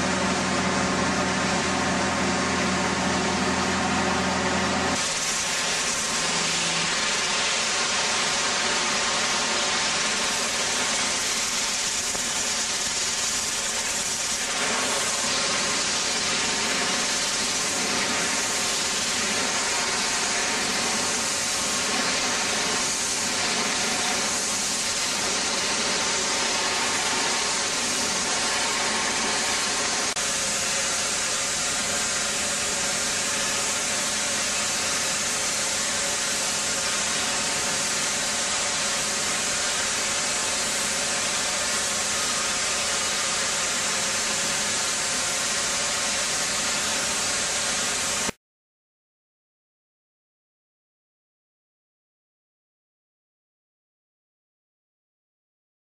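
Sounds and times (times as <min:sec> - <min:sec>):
high-pressure water jet hissing: 0:00.0 - 0:48.4.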